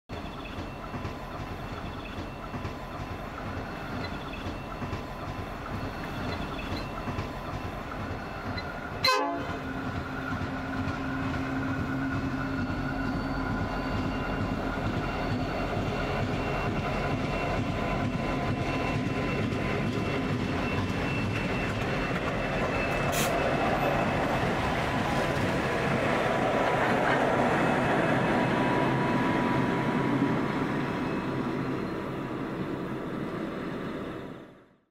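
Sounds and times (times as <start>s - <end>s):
diesel locomotives passing: 0.1s - 34.9s.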